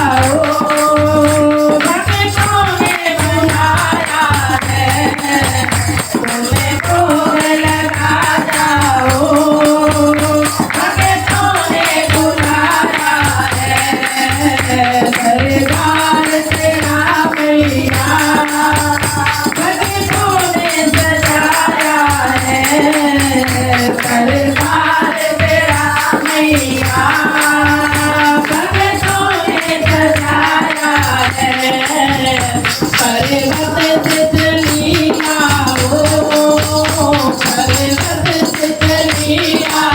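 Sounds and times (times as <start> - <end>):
steady drum beat: 0.0 - 39.9
tambourine jingles: 0.0 - 39.9.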